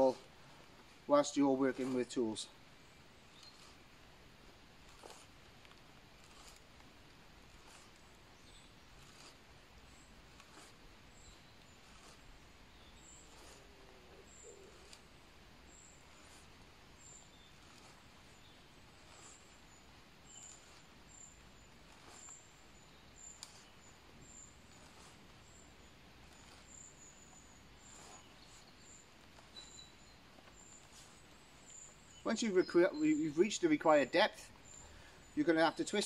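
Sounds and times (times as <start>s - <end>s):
faint outdoor hiss: 0.0s - 36.0s.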